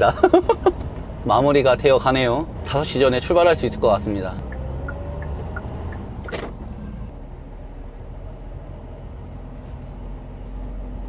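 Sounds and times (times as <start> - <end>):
truck engine humming: 0.0 - 11.0.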